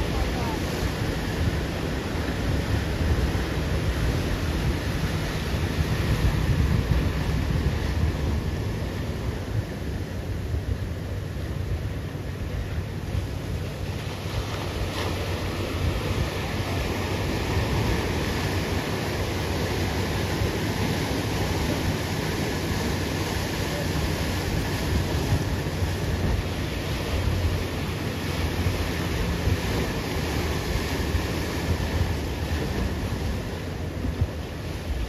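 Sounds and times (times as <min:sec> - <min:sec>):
ocean surf breaking: 0:00.0 - 0:35.0
wind rumbling on microphone: 0:00.0 - 0:35.0.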